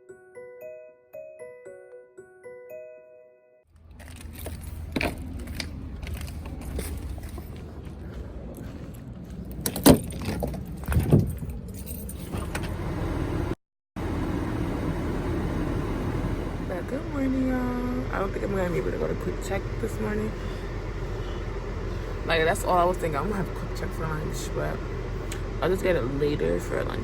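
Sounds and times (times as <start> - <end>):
car interior rumble: 3.8 - 27.0.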